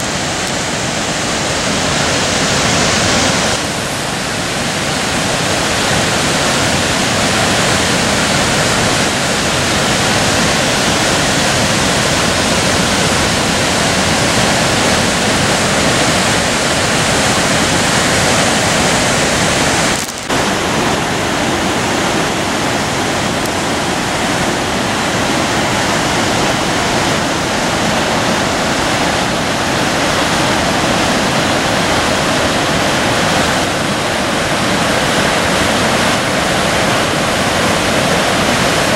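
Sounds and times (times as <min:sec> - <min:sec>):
waterfall and rapids rushing: 0:00.0 - 0:38.9.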